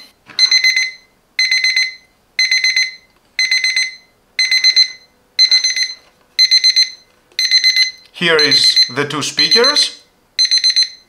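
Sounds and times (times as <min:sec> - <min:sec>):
alarm clock beeping: 0:00.4 - 0:11.0.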